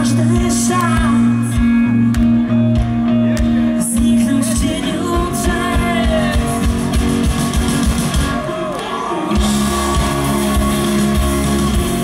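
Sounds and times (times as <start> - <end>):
live pop-rock band playing: 0.0 - 12.0.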